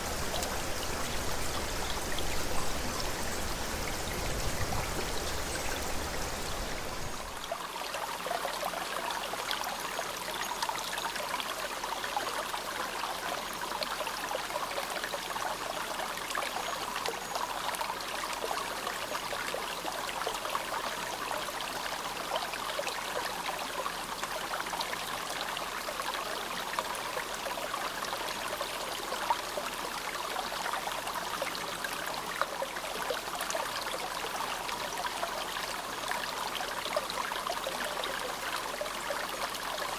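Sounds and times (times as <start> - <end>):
stream babbling and splashing: 0.0 - 39.9.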